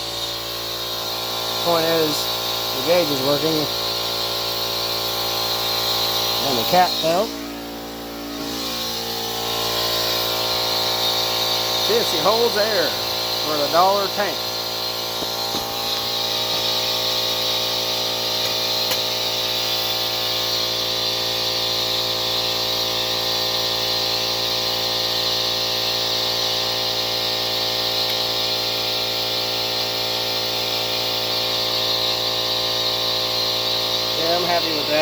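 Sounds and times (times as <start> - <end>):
air compressor humming and hissing: 0.0 - 35.0.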